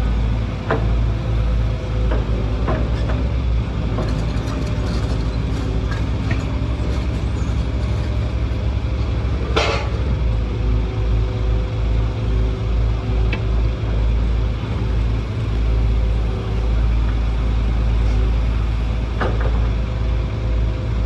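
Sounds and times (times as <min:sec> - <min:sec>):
excavator engine rumbling: 0:00.0 - 0:21.0.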